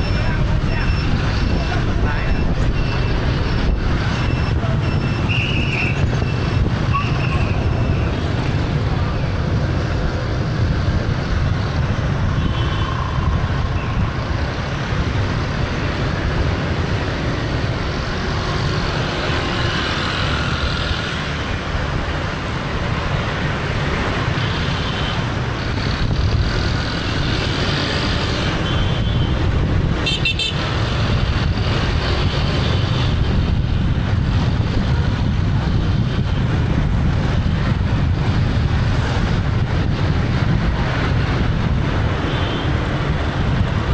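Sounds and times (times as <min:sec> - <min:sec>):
traffic engines and road noise: 0:00.0 - 0:43.9.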